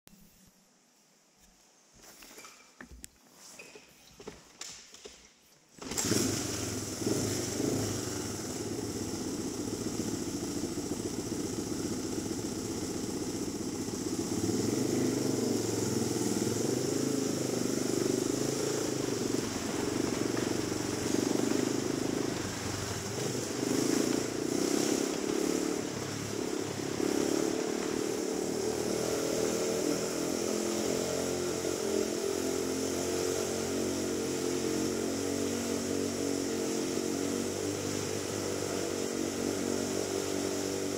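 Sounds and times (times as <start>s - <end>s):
motorcycle engine running: 5.8s - 40.9s.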